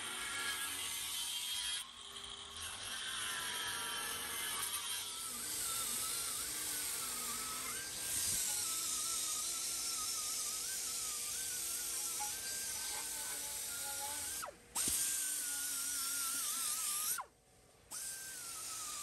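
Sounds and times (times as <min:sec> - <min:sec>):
power tool whine: 0:00.0 - 0:19.0.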